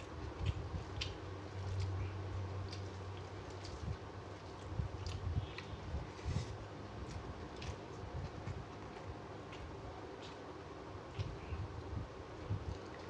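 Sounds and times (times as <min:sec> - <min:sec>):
fingers kneading rice: 0:00.0 - 0:13.0.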